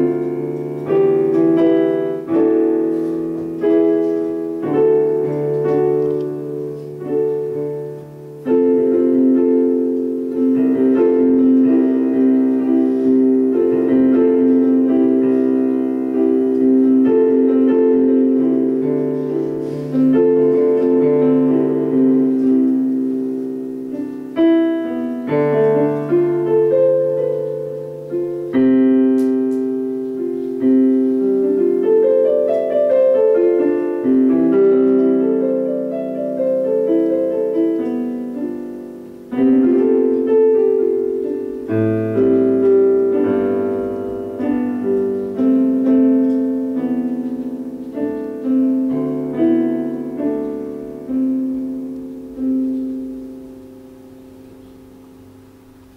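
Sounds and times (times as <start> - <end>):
slow piano chords: 0.0 - 55.9.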